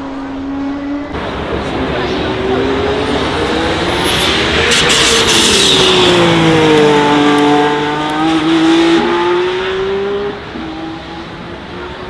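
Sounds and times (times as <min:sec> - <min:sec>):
car engine accelerating past: 0:00.0 - 0:12.0.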